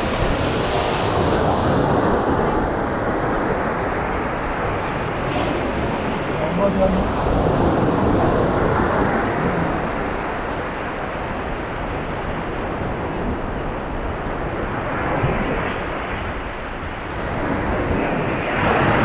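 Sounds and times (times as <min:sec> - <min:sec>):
surf breaking on a beach: 0:00.0 - 0:19.0
wind rumbling on microphone: 0:00.0 - 0:19.0.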